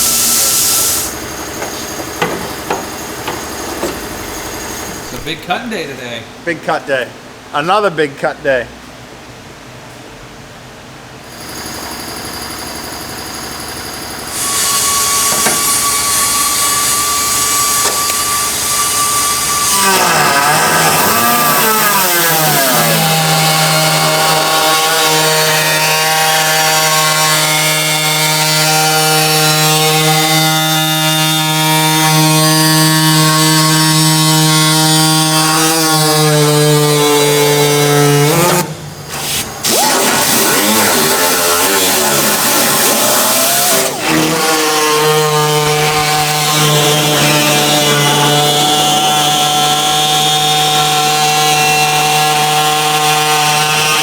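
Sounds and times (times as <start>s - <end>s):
power tool cutting metal: 0.0s - 5.4s, 14.1s - 54.0s.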